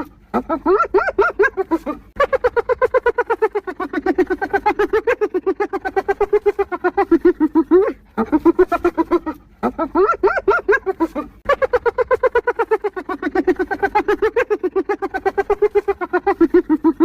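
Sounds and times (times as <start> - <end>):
hyena giggling: 0.0 - 17.0.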